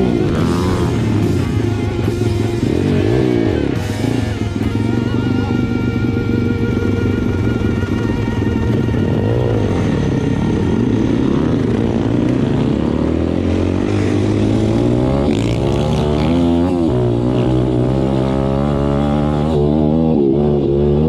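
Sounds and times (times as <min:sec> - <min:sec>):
motorbike engine accelerating: 0:00.0 - 0:21.0.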